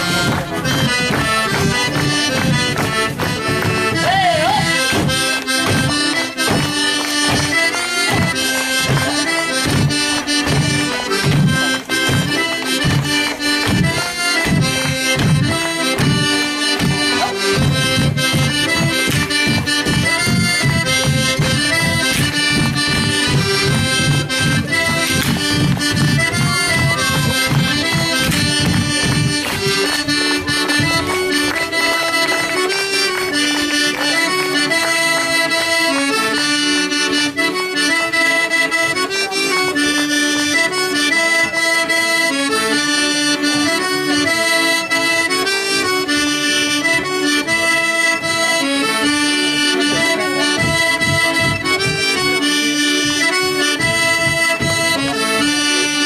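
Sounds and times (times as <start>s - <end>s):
accordion folk dance tune: 0.0s - 56.0s.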